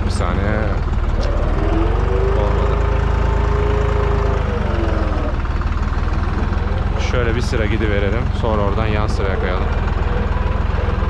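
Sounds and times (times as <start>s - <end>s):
engine whine: 0.0s - 11.0s
tractor diesel engine running: 0.0s - 11.0s.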